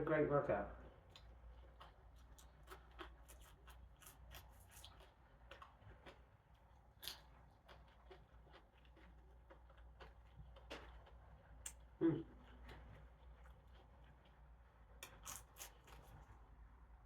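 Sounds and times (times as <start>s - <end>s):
chewing crispy fried fish: 0.8s - 16.5s.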